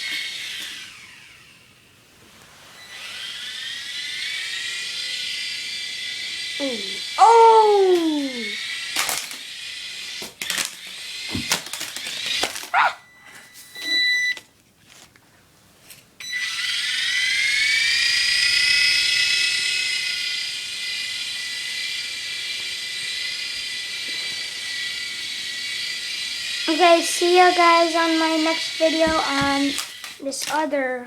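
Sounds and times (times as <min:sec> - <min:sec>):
toy helicopter rotor whine: 0:00.0 - 0:01.9, 0:02.8 - 0:14.1, 0:16.2 - 0:31.0.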